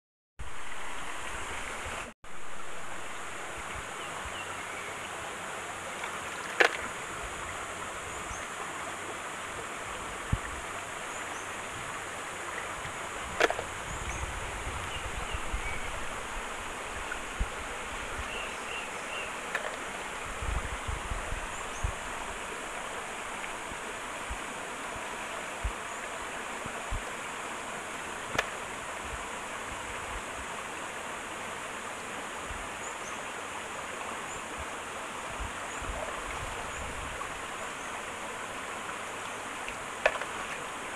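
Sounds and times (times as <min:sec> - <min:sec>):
rocky stream running: 0:00.4 - 0:40.9.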